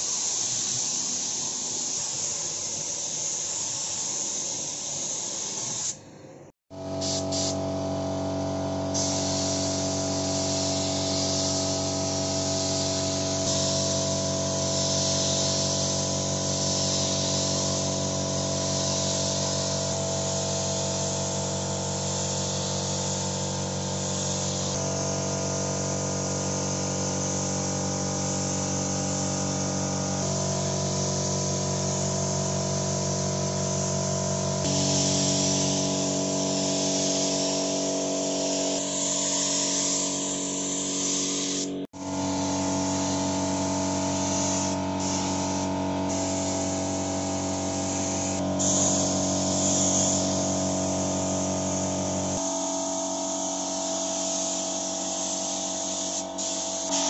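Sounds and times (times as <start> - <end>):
air spray gun hissing: 0.0 - 6.0, 6.7 - 57.0.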